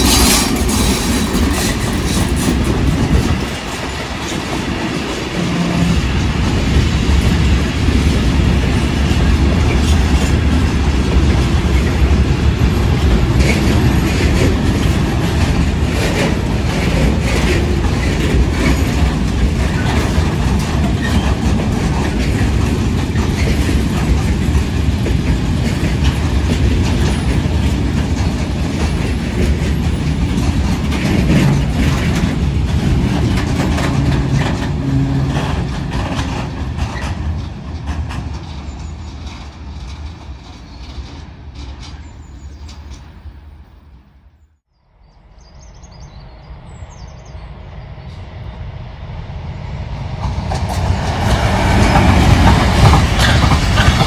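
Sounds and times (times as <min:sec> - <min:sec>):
freight train wheels clattering: 0:00.0 - 0:43.4, 0:49.9 - 0:54.0
train approaching: 0:00.0 - 0:54.0.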